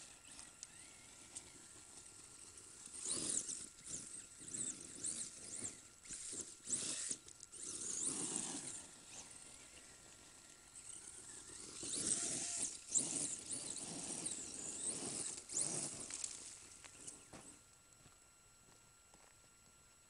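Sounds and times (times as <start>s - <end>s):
electric motor whining in bursts: 0.0s - 17.8s.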